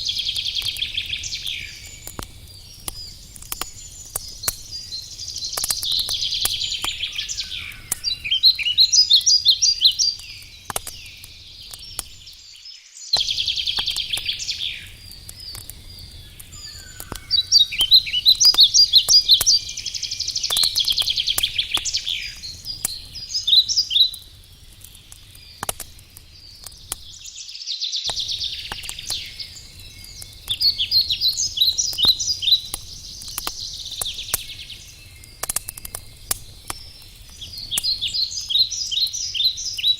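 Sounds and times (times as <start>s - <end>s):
campfire crackling and popping: 0.0s - 12.5s, 13.2s - 39.9s
songbird singing trills: 0.0s - 39.9s.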